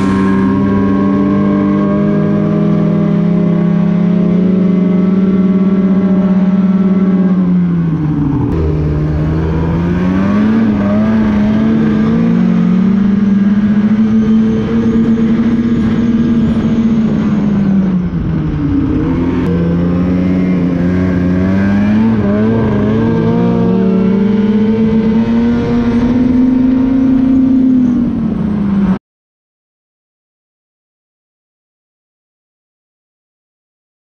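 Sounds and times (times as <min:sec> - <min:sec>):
snowmobile engine running: 0:00.0 - 0:28.8.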